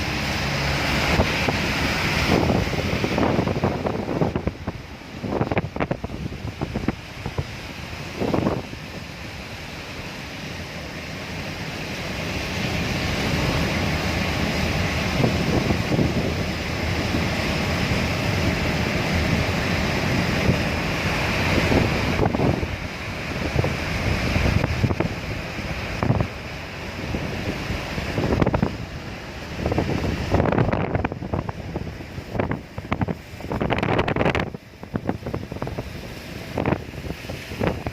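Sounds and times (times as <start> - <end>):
rain hissing: 0.0 - 37.9
wind gusting across microphone: 0.0 - 37.9.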